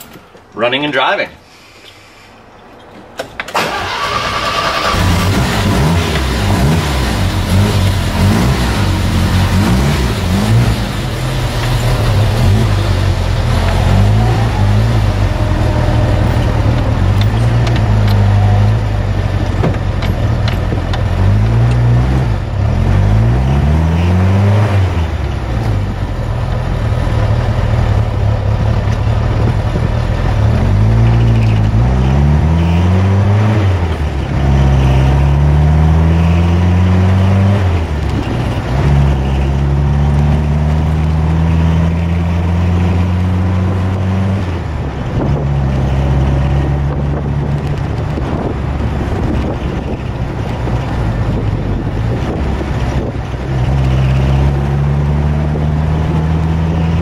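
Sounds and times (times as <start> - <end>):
car engine accelerating: 3.6 - 57.0.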